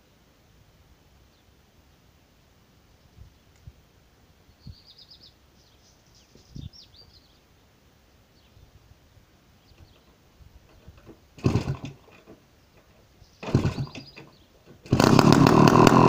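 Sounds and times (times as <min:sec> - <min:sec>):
faint birdsong chirps: 0:01.1 - 0:11.4, 0:12.4 - 0:14.9.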